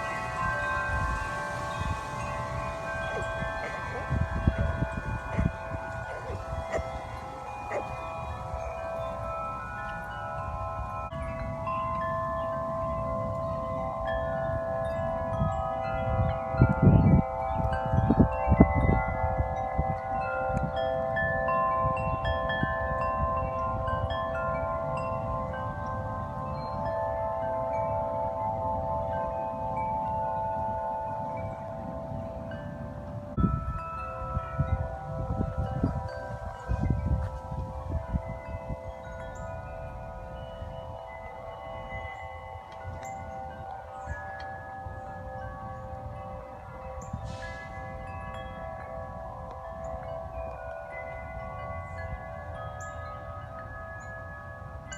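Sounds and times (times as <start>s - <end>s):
metal wind chimes ringing: 0.0s - 54.9s
wind buffeting microphone: 0.0s - 54.9s.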